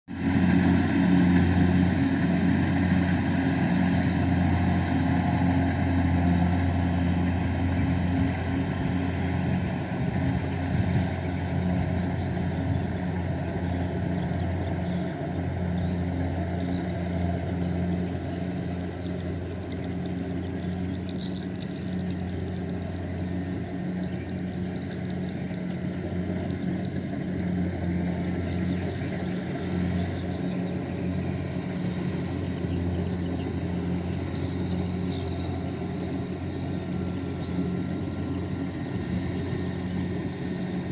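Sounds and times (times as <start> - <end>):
diesel engine running under load: 0.1 - 40.9.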